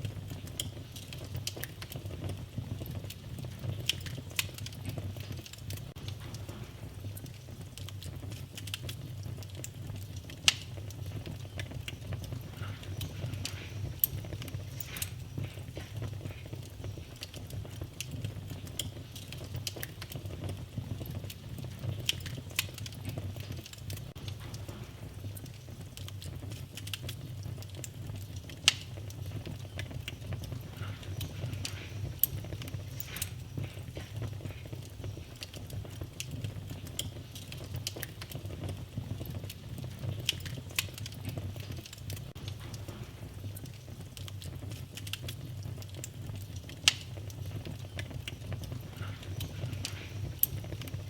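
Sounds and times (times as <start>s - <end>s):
fireplace fire rumbling: 0.0s - 51.0s
logs crackling and popping: 0.0s - 51.0s.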